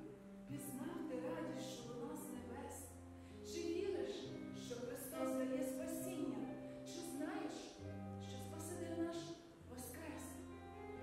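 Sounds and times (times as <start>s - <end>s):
woman reciting into a microphone: 0.5s - 2.8s, 3.4s - 10.4s.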